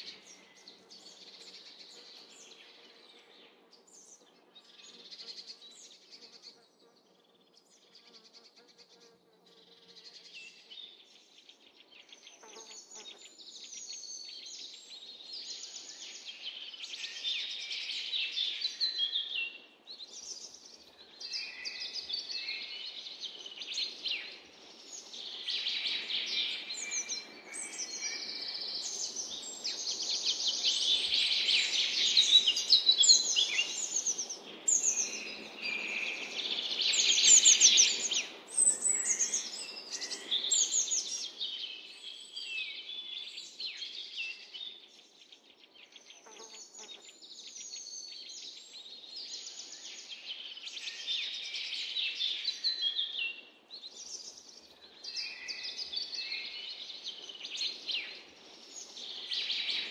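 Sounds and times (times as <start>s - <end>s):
songbirds singing and chirping: 0.0s - 59.9s.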